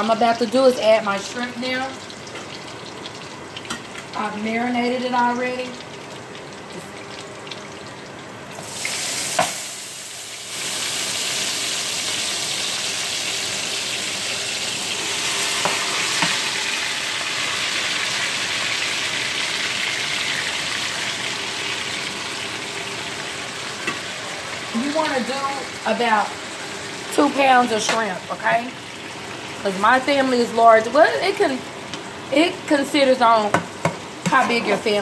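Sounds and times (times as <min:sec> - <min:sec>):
food sizzling in frying pan: 0:00.0 - 0:35.0.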